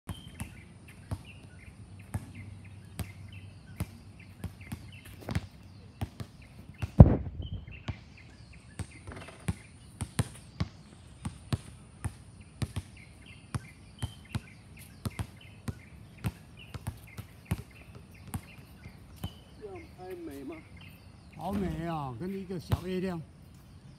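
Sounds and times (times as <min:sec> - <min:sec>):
basketballs bouncing on court: 0:00.1 - 0:07.2, 0:08.7 - 0:20.6, 0:22.6 - 0:23.2.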